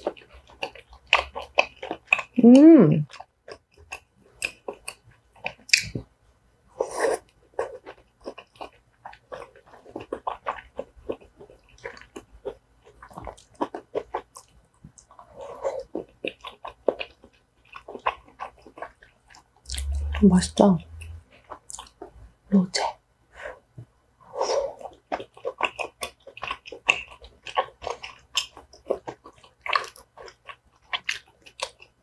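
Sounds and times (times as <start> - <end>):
person chewing with mouth clicks: 0.0 - 6.1, 6.8 - 23.0, 24.4 - 32.0.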